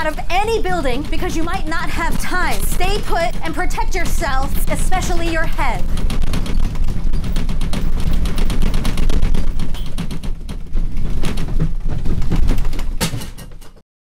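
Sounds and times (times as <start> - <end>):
deep earthquake rumble: 0.0 - 13.1
crackling and rattling: 0.0 - 13.8.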